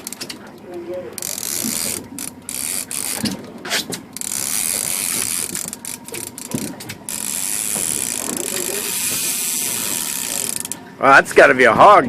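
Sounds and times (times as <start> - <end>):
fishing reel ratcheting: 0.0 - 10.9.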